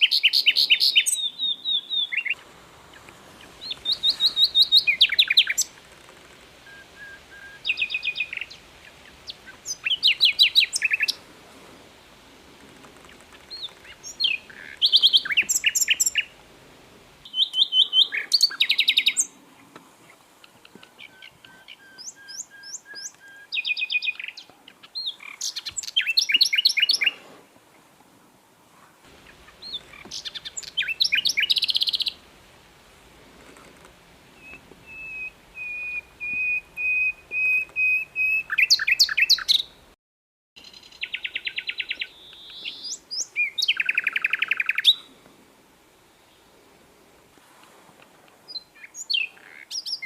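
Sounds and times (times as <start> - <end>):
songbird singing varied song: 0.0 - 11.3, 11.9 - 16.5, 17.2 - 27.2, 29.1 - 32.3, 34.2 - 39.9, 40.6 - 45.1, 48.3 - 50.0.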